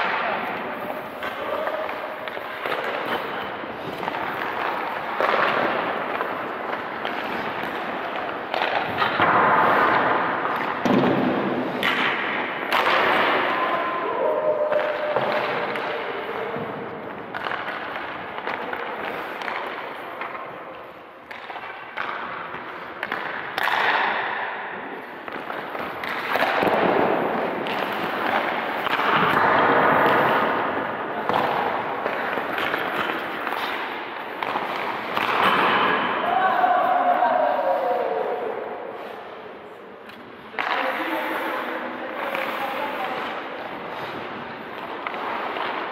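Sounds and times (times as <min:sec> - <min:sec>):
skate blades scraping ice: 0:00.0 - 0:13.7, 0:14.8 - 0:36.2, 0:37.6 - 0:45.9
sharp cracks of pucks and sticks: 0:00.0 - 0:39.4, 0:40.0 - 0:45.9.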